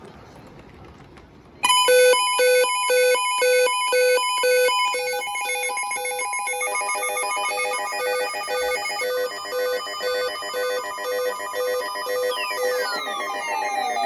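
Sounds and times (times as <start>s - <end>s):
buzzy synthesizer jingle: 1.9s - 14.0s.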